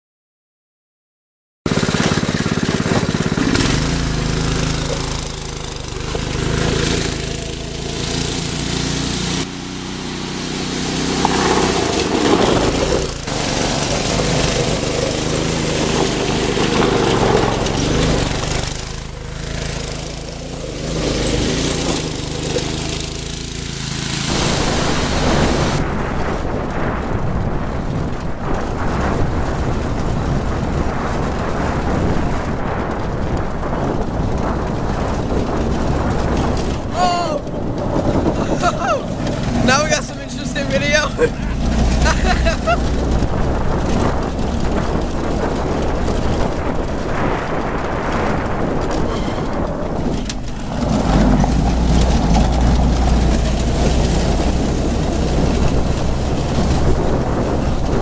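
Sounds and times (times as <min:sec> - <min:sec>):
go-kart engine revving: 0:01.7 - 0:58.0.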